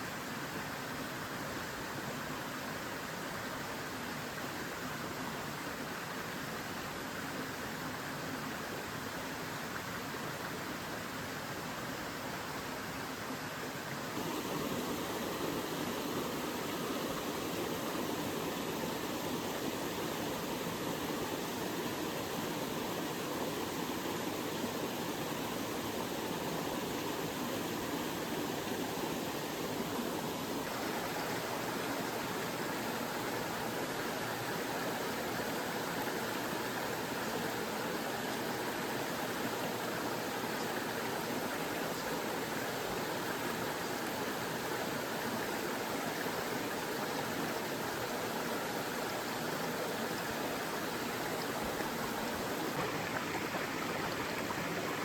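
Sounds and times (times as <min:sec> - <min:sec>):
stream flowing water: 0:00.0 - 0:55.0.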